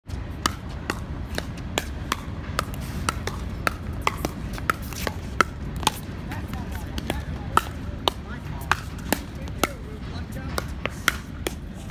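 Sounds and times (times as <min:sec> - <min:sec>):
paddles hitting plastic ball: 0:00.4 - 0:11.7.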